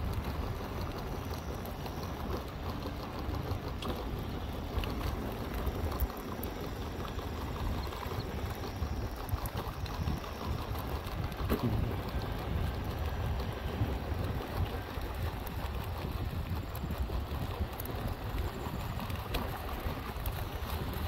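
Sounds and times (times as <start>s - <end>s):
faint clicks: 0.0s - 21.0s
wheels rolling over rough asphalt: 0.0s - 21.0s
wind on microphone: 0.0s - 21.0s.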